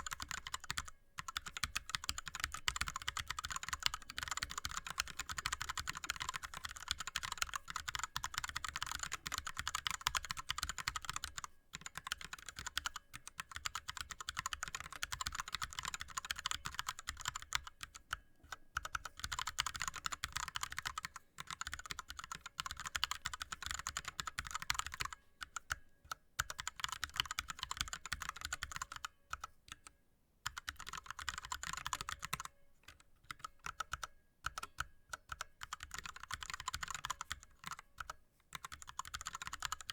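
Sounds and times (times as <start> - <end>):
fast keyboard typing: 0.0 - 17.9, 18.8 - 25.7, 26.4 - 29.4, 30.5 - 32.5, 33.3 - 39.9.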